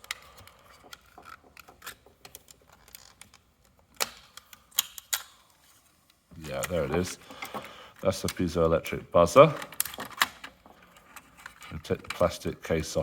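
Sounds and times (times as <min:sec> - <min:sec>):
plastic parts clicking and tapping: 0:00.0 - 0:05.4, 0:06.4 - 0:12.5.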